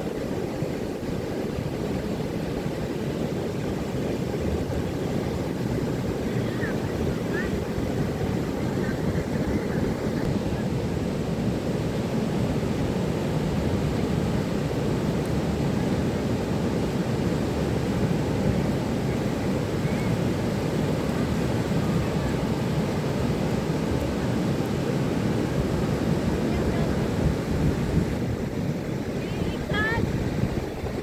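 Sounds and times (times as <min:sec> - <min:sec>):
ocean surf breaking: 0:00.0 - 0:31.0.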